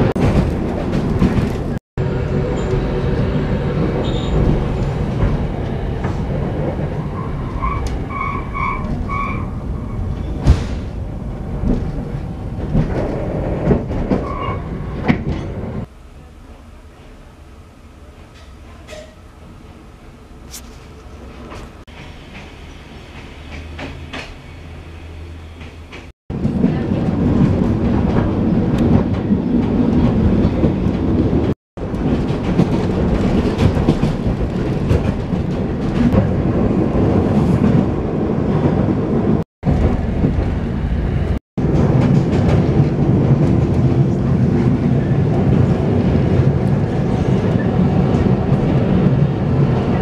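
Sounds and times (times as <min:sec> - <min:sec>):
train wheels rumbling on rails: 0:00.0 - 0:17.3, 0:18.0 - 0:50.0
low hum inside train: 0:00.1 - 0:50.0.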